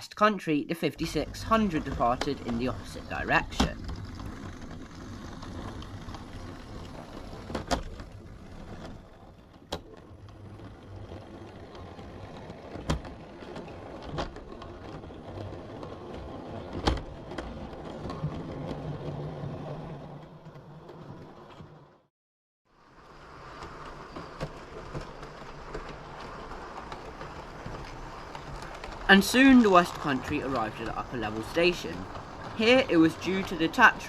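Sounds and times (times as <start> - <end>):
rail clicks: 1.0 - 21.8, 23.1 - 34.0
model train rumbling on track: 1.0 - 21.9, 22.8 - 34.0.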